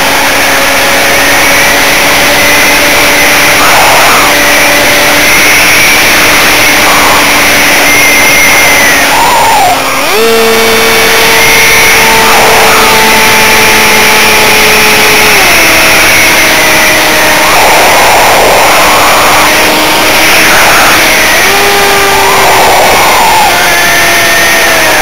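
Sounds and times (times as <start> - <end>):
electric motor and propeller whining: 0.0 - 25.0.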